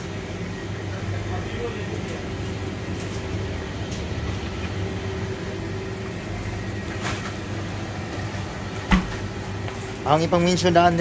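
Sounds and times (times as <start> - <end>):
drinks cooler humming: 0.0 - 11.0.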